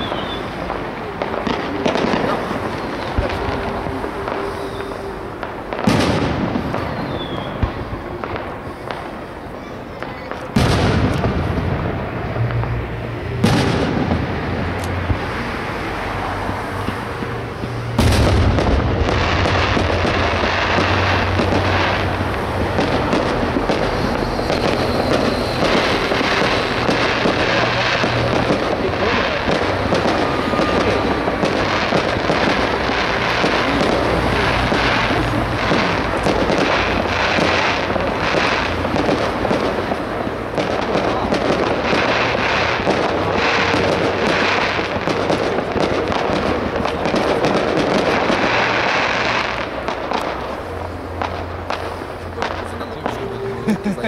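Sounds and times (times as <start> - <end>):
firework bang: 0.0 - 15.6, 16.2 - 53.3
firework bursts and crackle: 0.0 - 54.0.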